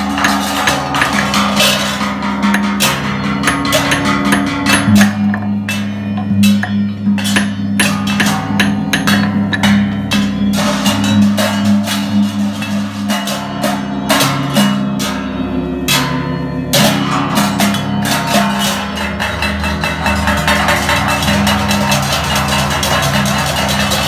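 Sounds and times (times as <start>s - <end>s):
deep hanging gongs: 0.0s - 24.0s
fast crisp strikes: 0.0s - 24.0s.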